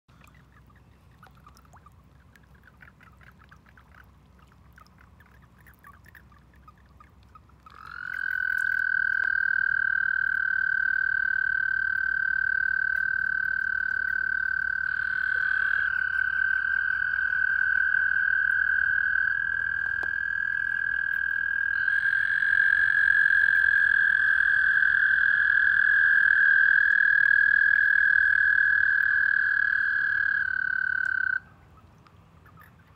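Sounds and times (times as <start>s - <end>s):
toads trilling: 0.2s - 32.9s.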